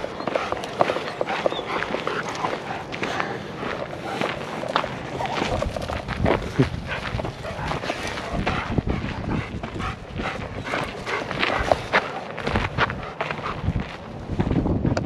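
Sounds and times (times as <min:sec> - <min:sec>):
footsteps on dirt trail: 0:00.0 - 0:15.0.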